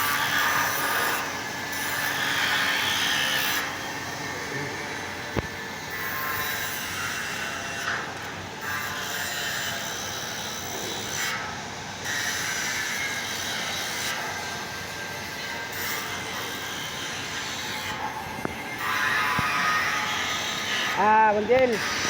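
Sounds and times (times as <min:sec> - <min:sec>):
angle grinder grinding metal: 0:00.0 - 0:11.4, 0:12.0 - 0:22.0.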